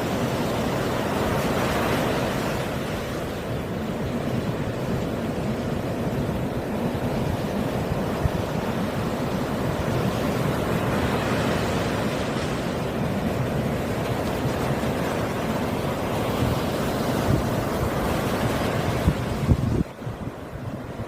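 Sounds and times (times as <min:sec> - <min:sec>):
sea waves washing on shore: 0:00.0 - 0:21.0
wind on microphone: 0:00.0 - 0:21.0.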